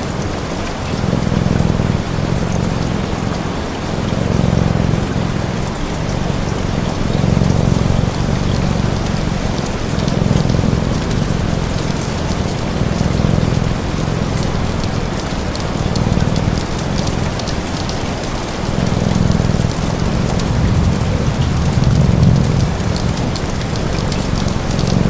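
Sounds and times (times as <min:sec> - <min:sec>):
fire crackling: 0:00.0 - 0:25.0
steady rain falling: 0:00.0 - 0:25.0.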